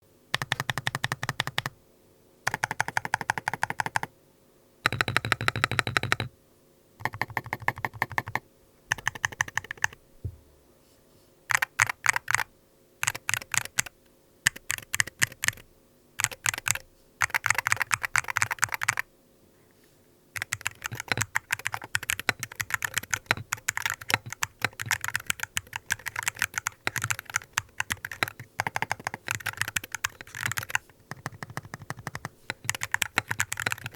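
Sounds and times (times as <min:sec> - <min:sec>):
keyboard typing clicks: 0:00.3 - 0:01.7, 0:02.5 - 0:04.1, 0:04.8 - 0:06.3, 0:07.0 - 0:10.0, 0:11.5 - 0:13.9, 0:14.5 - 0:15.6, 0:16.2 - 0:19.0, 0:20.4 - 0:33.9.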